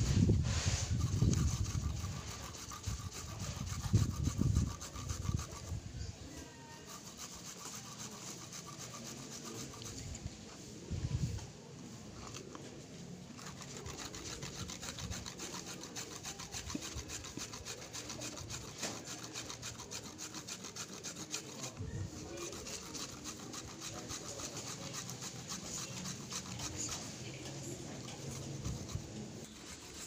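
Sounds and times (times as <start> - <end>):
root rasping against knife: 0.1 - 10.3, 12.2 - 30.0.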